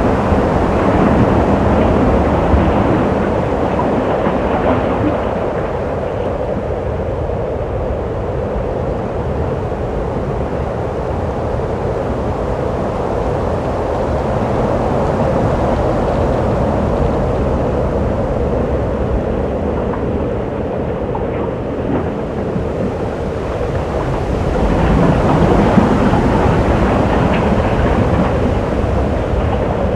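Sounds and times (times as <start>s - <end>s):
wind blowing through cave: 0.0s - 29.9s.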